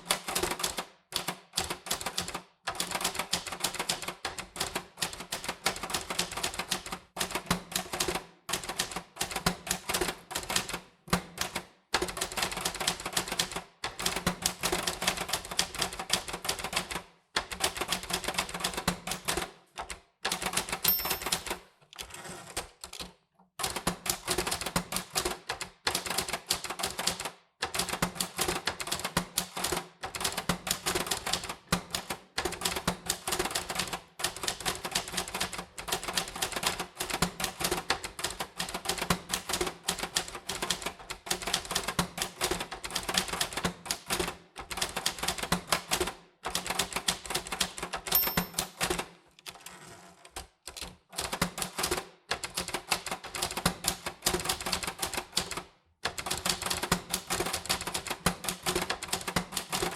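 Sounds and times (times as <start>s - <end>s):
typewriter keys clicking: 0.0s - 49.6s, 50.3s - 59.9s.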